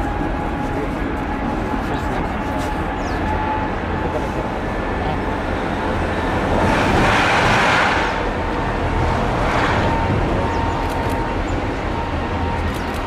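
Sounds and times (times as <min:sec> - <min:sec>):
faint jet engine whine: 0:00.0 - 0:13.0
jet engine roar: 0:00.0 - 0:13.0.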